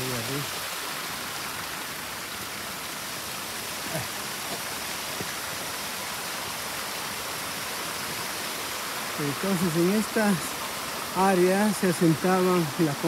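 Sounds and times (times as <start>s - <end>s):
water splashing down cascade: 0.0s - 13.0s.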